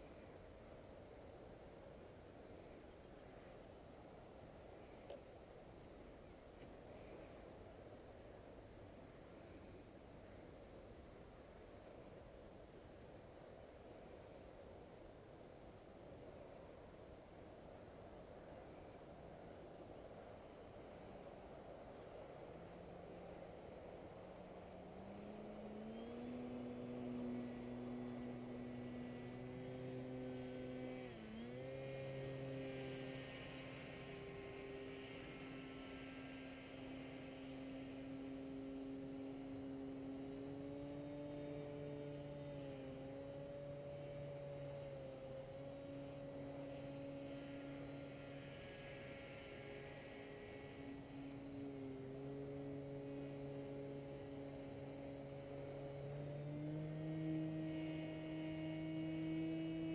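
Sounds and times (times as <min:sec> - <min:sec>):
distant paramotor droning: 0:00.0 - 0:59.9.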